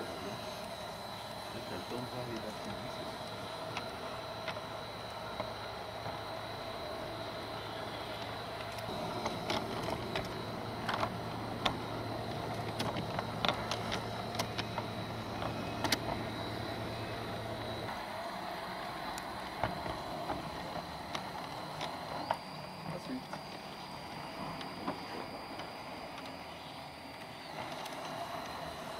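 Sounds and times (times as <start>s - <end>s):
model train motor hum with whine: 0.0s - 28.9s
wheels clicking over rails: 1.5s - 28.9s.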